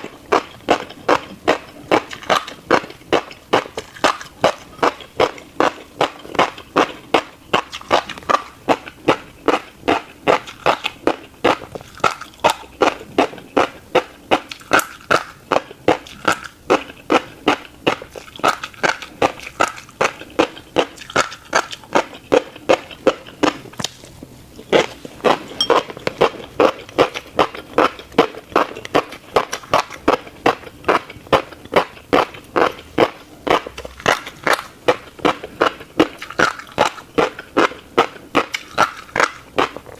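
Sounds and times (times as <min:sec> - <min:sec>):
person chewing seeds: 0:00.0 - 0:39.9.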